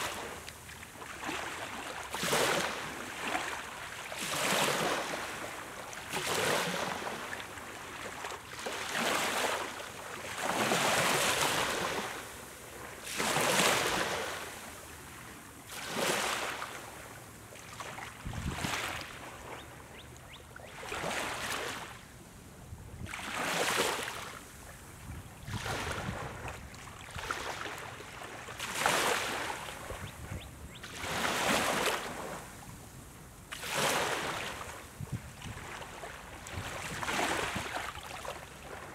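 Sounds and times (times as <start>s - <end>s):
small waves lapping on sand: 0.0s - 22.3s, 23.0s - 38.9s.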